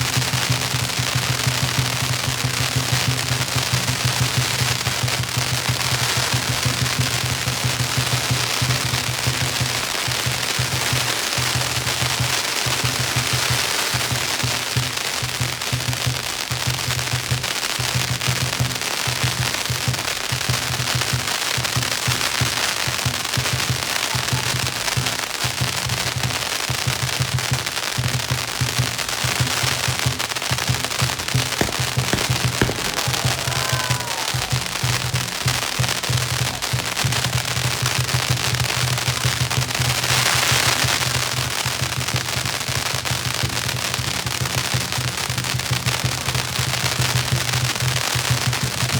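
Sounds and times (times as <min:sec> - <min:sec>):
firecrackers crackling: 0:00.0 - 0:48.9.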